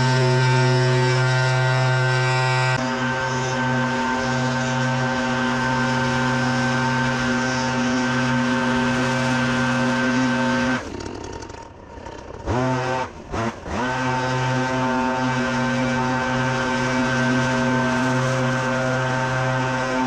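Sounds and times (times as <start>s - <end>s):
leaf vacuum engine revving: 0.0s - 20.0s.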